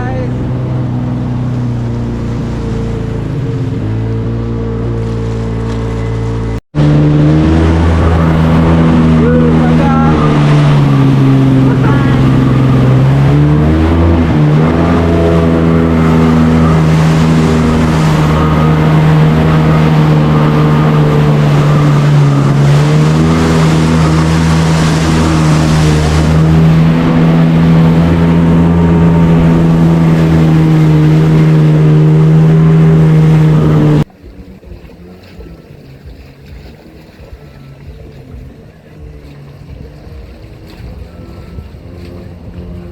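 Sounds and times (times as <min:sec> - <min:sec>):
jet ski engine running: 0:00.0 - 0:42.9.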